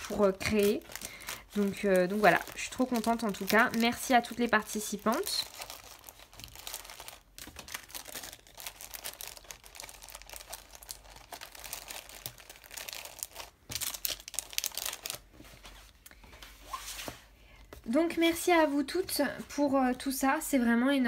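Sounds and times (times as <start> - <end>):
papers rustling and crinkling: 0.0 - 19.7.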